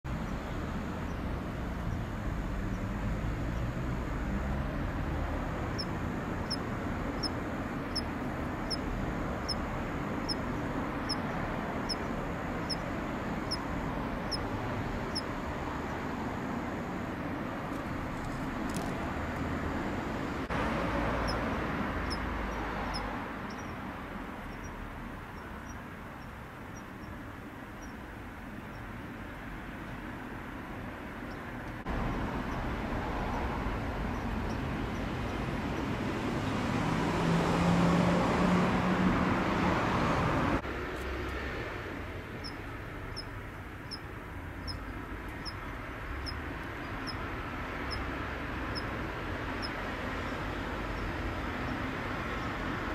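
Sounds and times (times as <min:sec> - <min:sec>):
cricket ticking: 0:00.1 - 0:36.2, 0:42.4 - 0:52.9.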